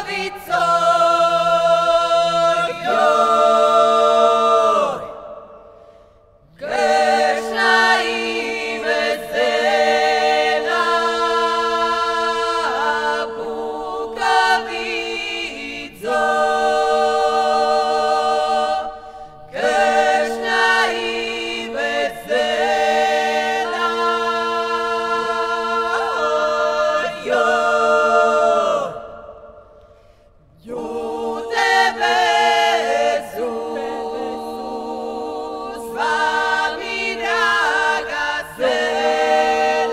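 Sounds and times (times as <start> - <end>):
group singing a cappella: 0.0 - 39.9.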